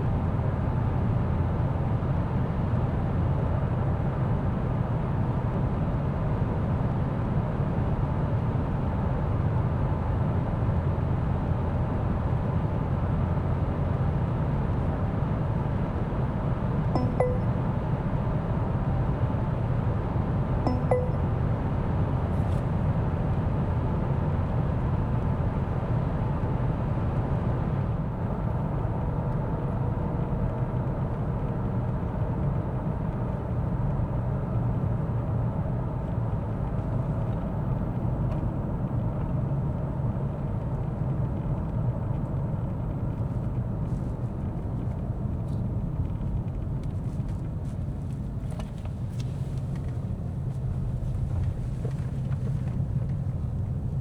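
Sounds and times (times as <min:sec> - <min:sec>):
road and tyre rumble: 0:00.0 - 0:54.0.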